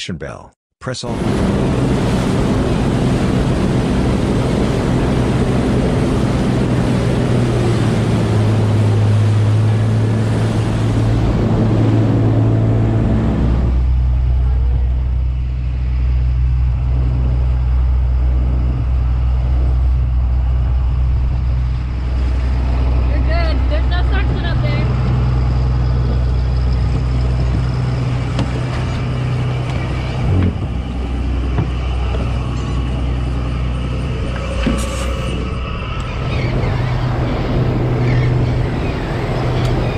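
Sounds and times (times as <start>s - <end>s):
boat engine running: 0.8s - 39.9s
water spray over hull: 1.0s - 39.9s.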